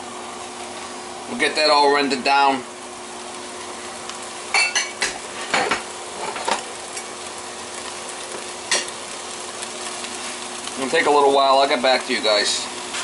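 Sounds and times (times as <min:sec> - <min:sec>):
vegetables and steak sizzling: 0:00.0 - 0:13.0.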